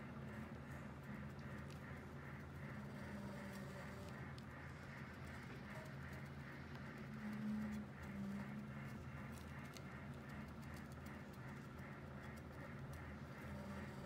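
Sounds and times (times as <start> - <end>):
electric motors humming and whirring: 0.0 - 14.0.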